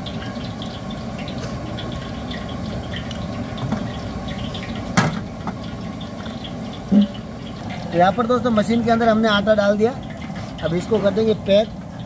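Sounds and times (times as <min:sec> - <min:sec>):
gas burner hissing: 0:00.0 - 0:12.0
oil crackling and popping: 0:00.0 - 0:12.0.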